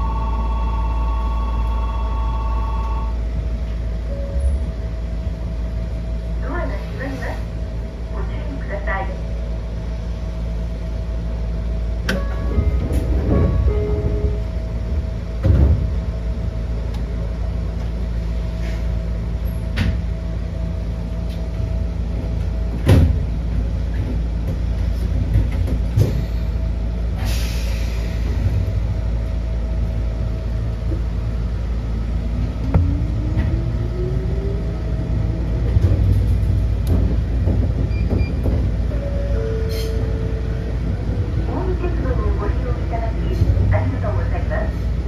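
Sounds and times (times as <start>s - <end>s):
electric train rumble: 0.0s - 45.0s.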